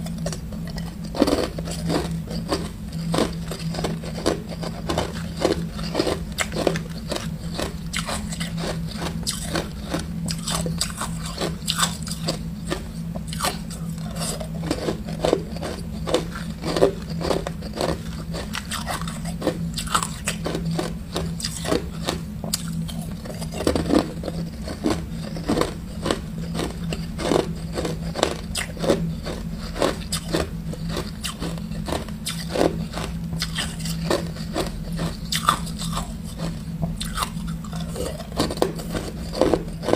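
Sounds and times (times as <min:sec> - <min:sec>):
steady low hum: 0:00.0 - 0:39.9
ice cubes crunching: 0:00.2 - 0:39.9.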